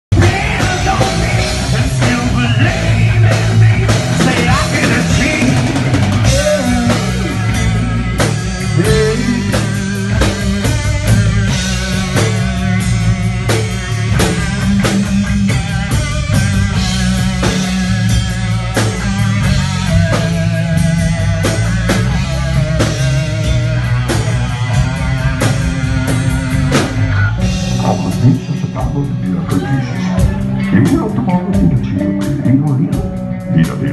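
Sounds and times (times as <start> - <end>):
rock music with drums and guitar: 0.1 - 33.9.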